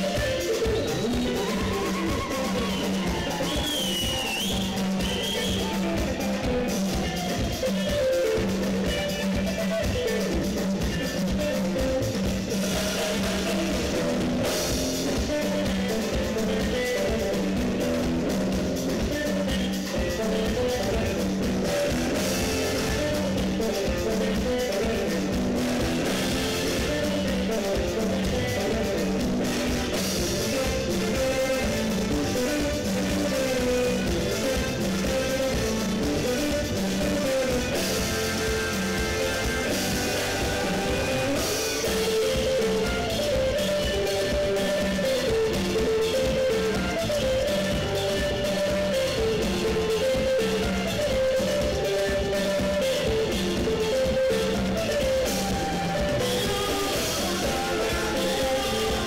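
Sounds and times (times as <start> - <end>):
drum kit beat: 0.0 - 59.0
electric guitar: 0.0 - 59.0
live rock band playing: 0.0 - 59.0
sustained bass notes: 0.0 - 59.0.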